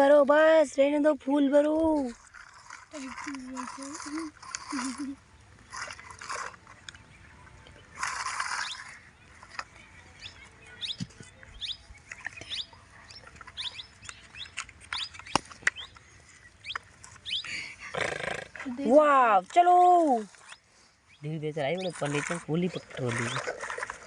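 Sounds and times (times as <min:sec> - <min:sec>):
small birds chirping: 0:02.0 - 0:24.0.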